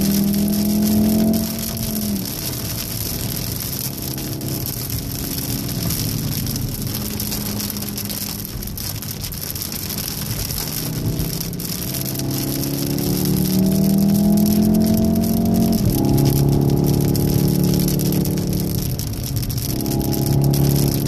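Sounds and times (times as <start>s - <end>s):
car engine: 0.0s - 21.0s
rain and tyre spray hiss: 0.0s - 21.0s.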